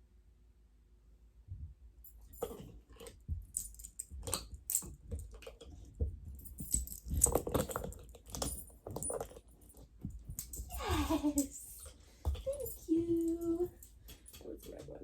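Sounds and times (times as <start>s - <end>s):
dog collar tags jingling: 2.0s - 15.0s.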